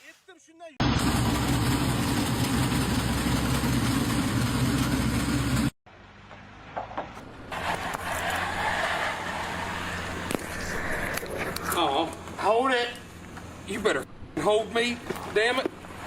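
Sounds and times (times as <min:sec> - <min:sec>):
engine running: 0:00.8 - 0:13.8.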